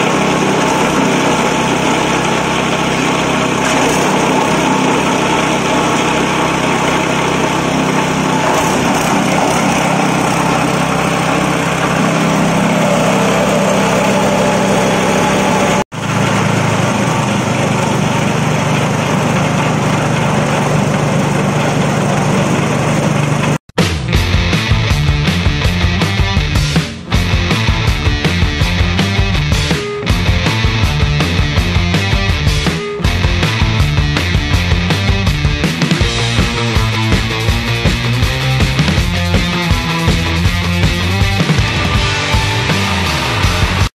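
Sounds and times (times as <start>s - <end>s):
chopping machine engine running: 0.0s - 43.9s.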